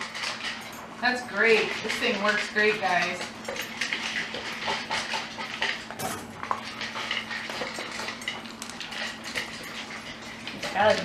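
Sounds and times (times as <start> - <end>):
dog eating kibble from plastic bowl: 0.0 - 11.0.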